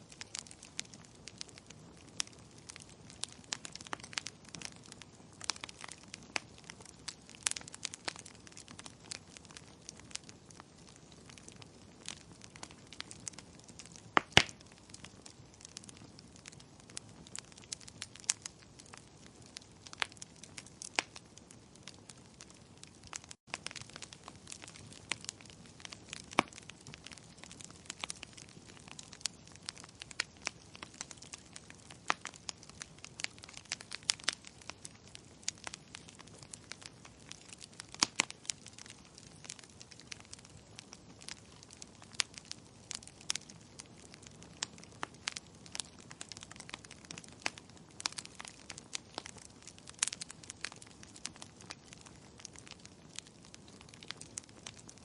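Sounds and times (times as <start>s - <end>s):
faint steady hiss: 0.0s - 55.0s
wood fire crackling: 0.0s - 55.0s.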